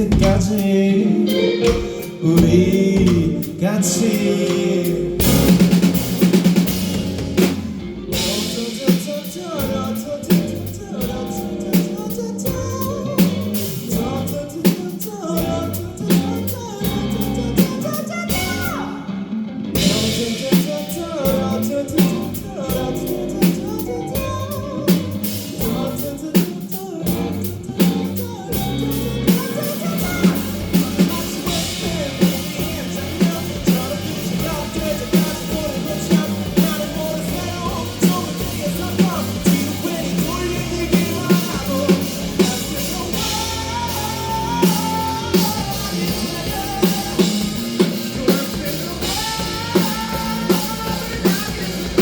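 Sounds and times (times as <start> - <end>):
drum kit beat: 0.0 - 18.8, 19.8 - 52.0
live rock band playing: 0.0 - 52.0.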